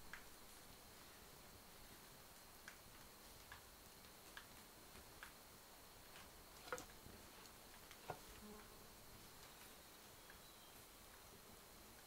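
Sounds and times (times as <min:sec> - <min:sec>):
campfire crackling: 0:00.0 - 0:12.0
low steady hiss: 0:00.0 - 0:12.0.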